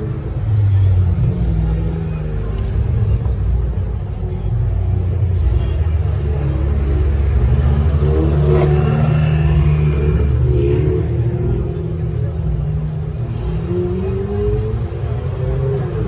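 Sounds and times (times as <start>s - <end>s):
race car engine at low revs: 0.0s - 16.0s.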